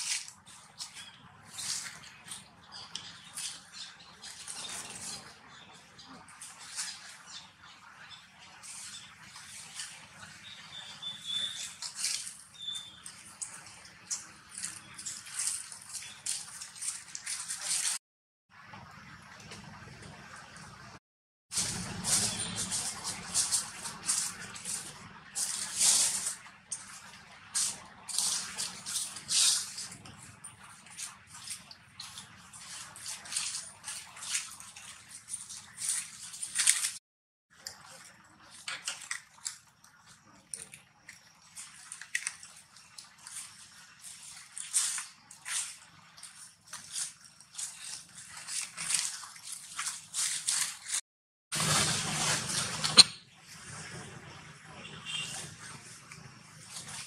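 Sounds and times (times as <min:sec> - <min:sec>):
dry leaves rustling: 0:00.0 - 0:18.0, 0:21.5 - 0:37.0, 0:41.4 - 0:53.0, 0:55.3 - 0:57.0.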